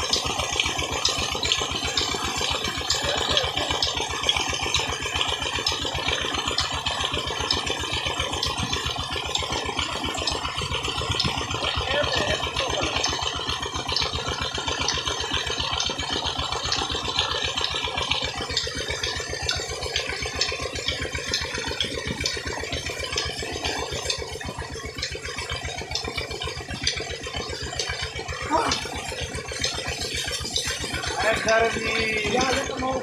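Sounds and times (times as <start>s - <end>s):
pump engine running: 0.0s - 33.0s
water gushing and splashing: 0.0s - 33.0s.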